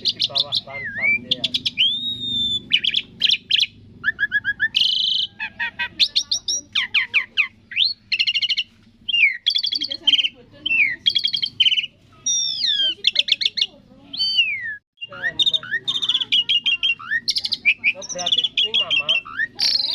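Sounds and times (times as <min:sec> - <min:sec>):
starling singing: 0:00.0 - 0:19.9.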